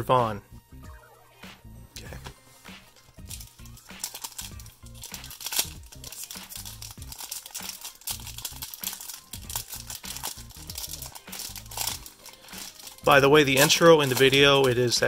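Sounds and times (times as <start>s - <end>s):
foil pack crinkling and tearing: 2.8s - 15.0s.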